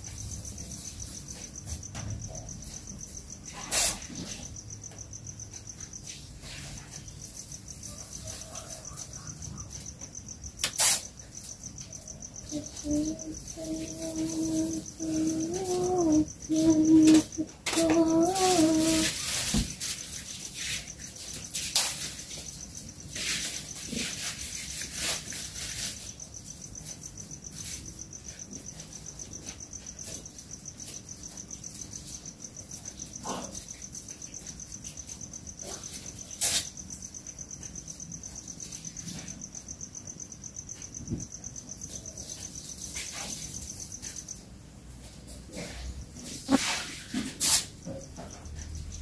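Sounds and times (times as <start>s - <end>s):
cricket-like insect trill: 0.0s - 49.0s.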